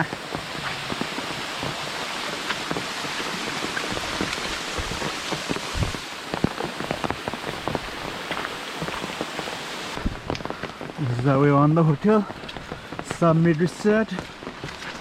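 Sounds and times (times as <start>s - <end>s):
heavy rain falling: 0.0s - 15.0s
raindrops pattering close by: 0.0s - 15.0s.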